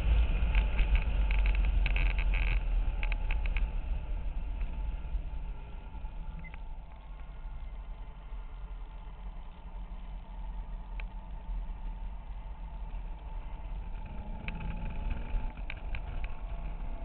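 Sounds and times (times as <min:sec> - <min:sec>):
car engine drone in cabin: 0:00.0 - 0:17.0.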